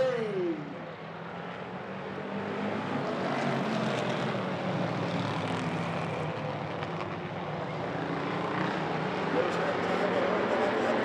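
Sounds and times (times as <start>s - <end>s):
race car engines running hard: 0.0s - 11.0s.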